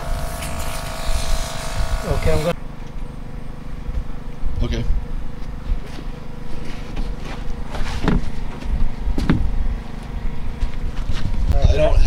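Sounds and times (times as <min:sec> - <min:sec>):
low motor hum: 0:00.0 - 0:11.5.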